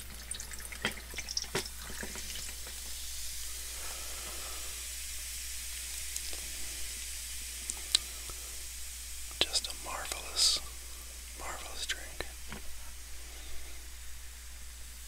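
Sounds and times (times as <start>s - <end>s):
soda fizzing: 0.0s - 15.0s.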